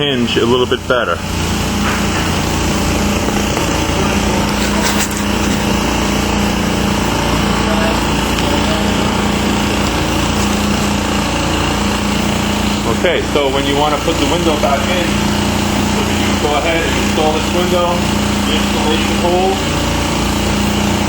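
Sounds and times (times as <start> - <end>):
small motor running: 0.0 - 21.0.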